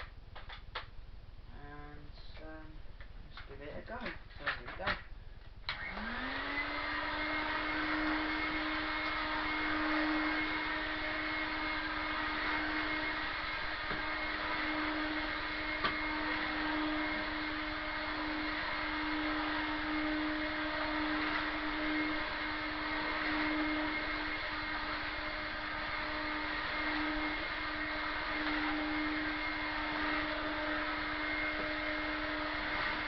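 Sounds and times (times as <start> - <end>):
vacuum cleaner running: 5.7 - 33.0.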